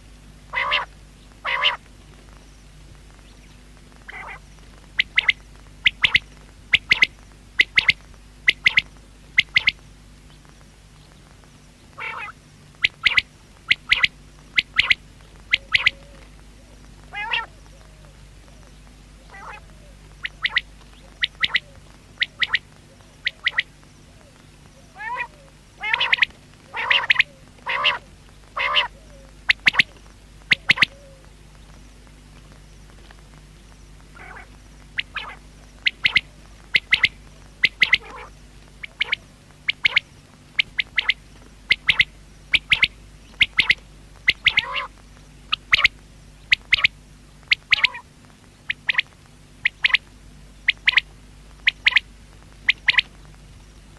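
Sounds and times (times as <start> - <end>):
faint steady hum: 0.0 - 53.9
quail calling: 0.5 - 1.9, 4.0 - 9.8, 11.9 - 31.3, 34.1 - 48.1, 48.7 - 53.2.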